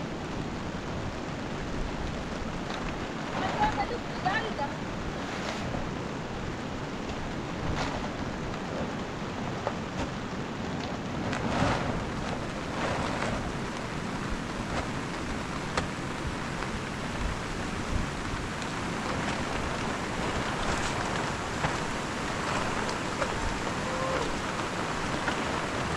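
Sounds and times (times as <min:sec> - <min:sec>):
wind rushing over microphone: 0:00.0 - 0:25.9
plastic sheet crackling dragged: 0:03.3 - 0:06.1, 0:07.6 - 0:25.9.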